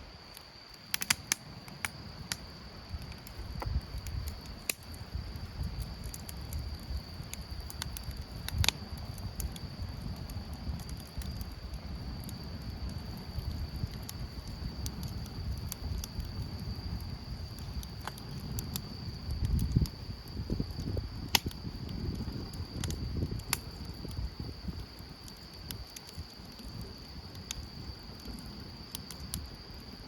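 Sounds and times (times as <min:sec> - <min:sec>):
wind rumble on microphone: 0:01.4 - 0:30.0.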